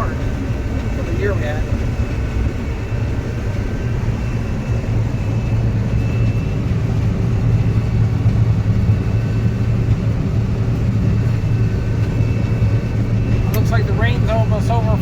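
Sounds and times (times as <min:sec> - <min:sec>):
farm machine engine droning: 0:00.0 - 0:15.0.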